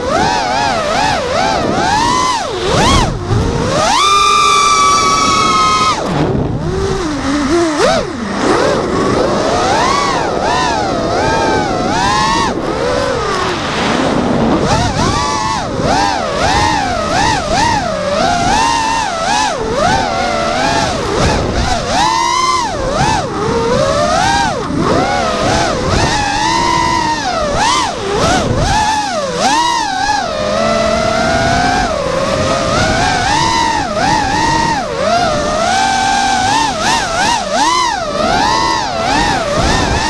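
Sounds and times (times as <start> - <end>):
drone motors whining: 0.0 - 40.0.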